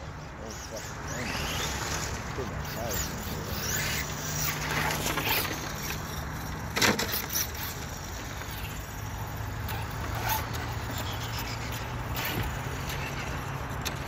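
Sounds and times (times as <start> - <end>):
electric toy cars motor whine: 0.0 - 14.0
tyre noise on asphalt: 1.1 - 14.0.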